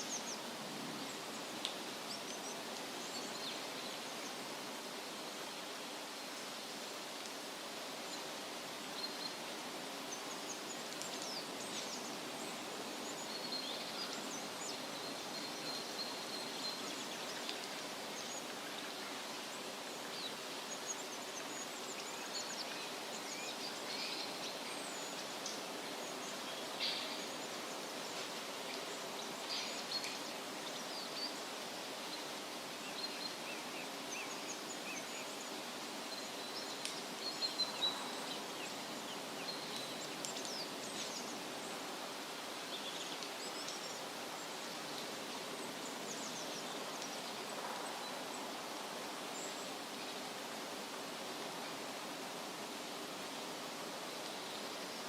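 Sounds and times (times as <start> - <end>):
wind rustling leaves: 0.0 - 55.0
small birds chirping: 8.0 - 55.0.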